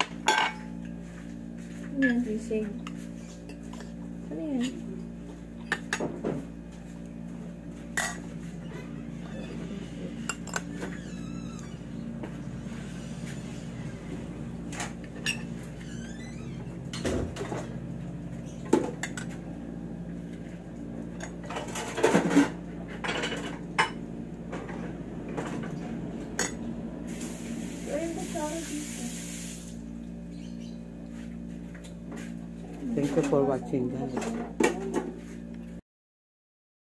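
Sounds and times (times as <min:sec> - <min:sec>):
steady low hum: 0:00.0 - 0:35.8.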